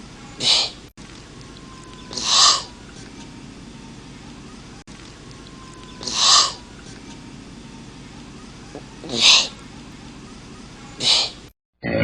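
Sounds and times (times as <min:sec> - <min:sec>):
steady low hum: 0:00.0 - 0:11.5
harsh animal calls: 0:00.3 - 0:12.0.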